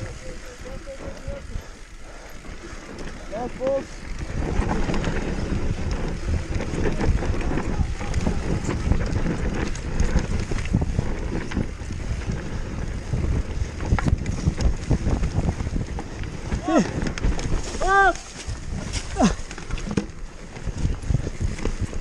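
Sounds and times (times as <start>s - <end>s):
wind rushing over microphone: 0.0s - 22.0s
bike knocks and rattles: 2.8s - 22.0s.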